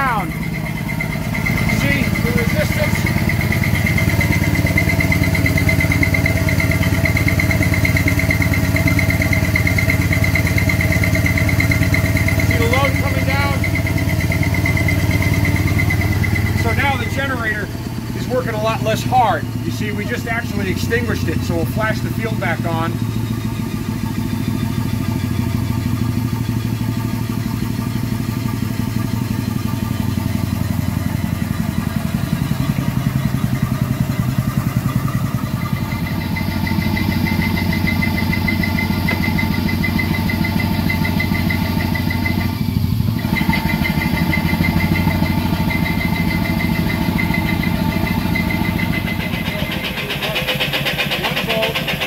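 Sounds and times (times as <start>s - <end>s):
steam engine running: 0.0s - 52.0s.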